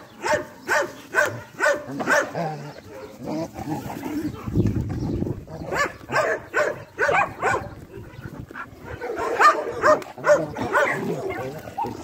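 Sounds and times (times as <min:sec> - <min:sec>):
dogs barking: 0:00.0 - 0:04.6, 0:05.4 - 0:12.0.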